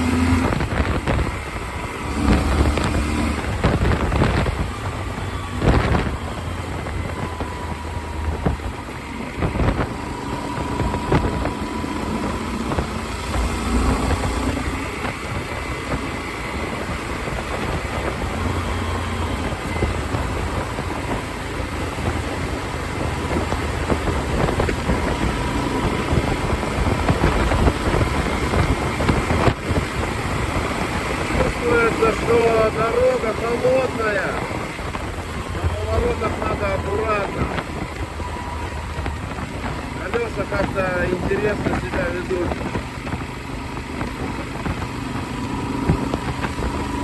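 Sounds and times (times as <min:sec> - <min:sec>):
motorcycle engine rumble: 0:00.0 - 0:47.0
wind rush over microphone: 0:00.0 - 0:47.0.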